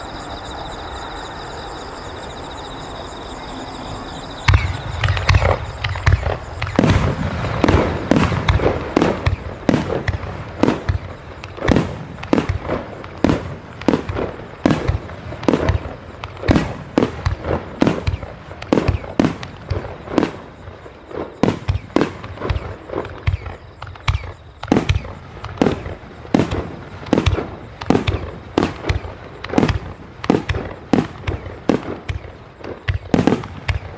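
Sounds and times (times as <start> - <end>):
background noise: 0.0 - 33.9
fireworks bangs echoing: 4.4 - 33.9.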